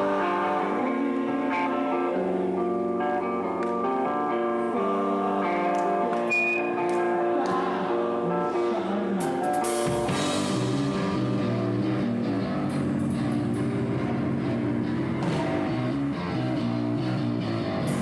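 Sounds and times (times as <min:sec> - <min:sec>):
hardcore band playing live: 0:00.0 - 0:18.0.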